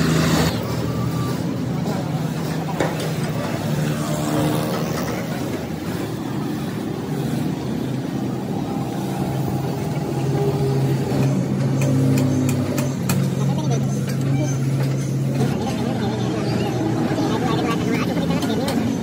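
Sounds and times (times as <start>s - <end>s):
engine running with low hum: 0.0s - 19.0s.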